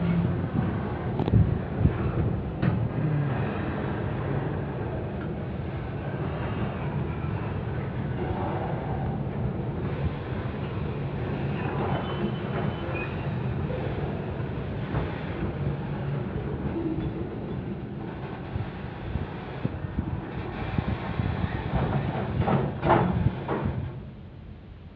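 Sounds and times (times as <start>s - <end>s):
freight train wagons rolling: 0.0s - 24.5s.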